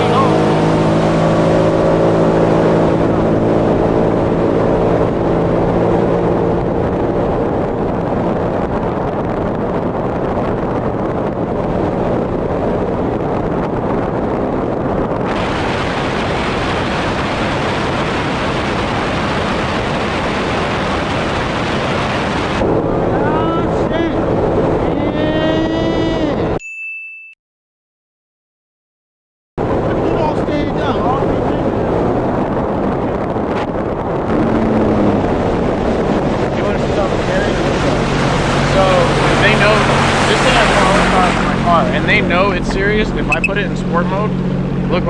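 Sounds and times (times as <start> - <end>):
water noise: 0.0 - 26.2, 29.6 - 45.0
personal watercraft engine: 0.0 - 26.3, 29.6 - 45.0
wind buffeting: 0.0 - 26.6, 29.6 - 45.0.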